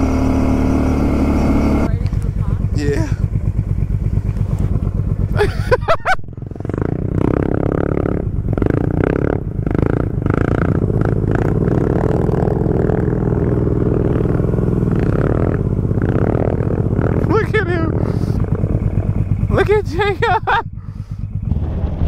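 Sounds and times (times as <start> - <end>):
atv engine running under load: 0.0 - 22.0.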